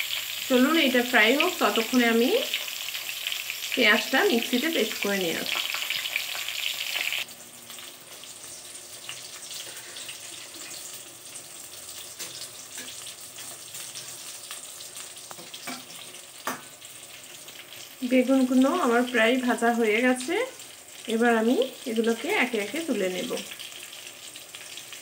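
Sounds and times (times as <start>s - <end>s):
eggplants sizzling in oil: 0.0s - 25.0s.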